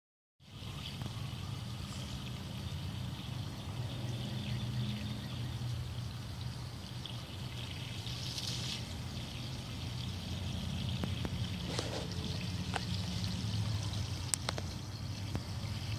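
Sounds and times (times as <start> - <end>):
water spraying onto grass: 0.4 - 15.9.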